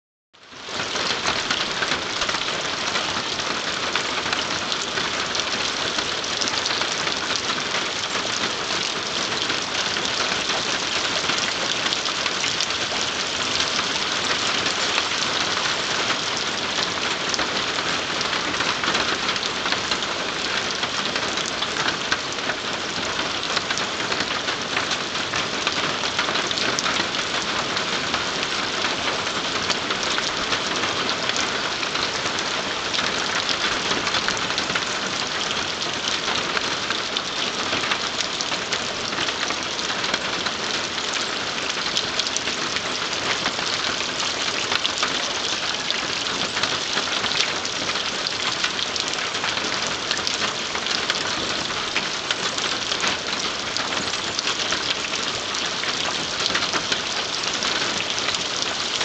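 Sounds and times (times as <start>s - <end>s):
steady rain falling: 0.4s - 59.0s.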